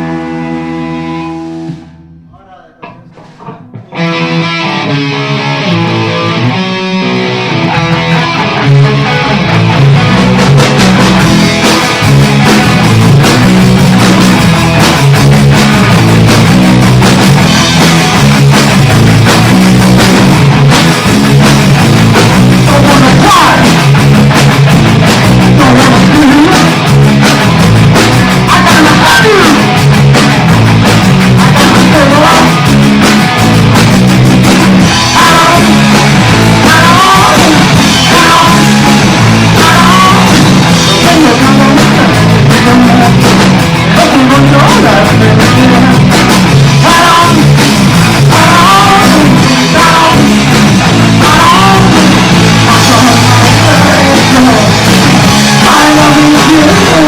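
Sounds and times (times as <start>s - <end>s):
punk rock band playing: 0.0s - 57.0s.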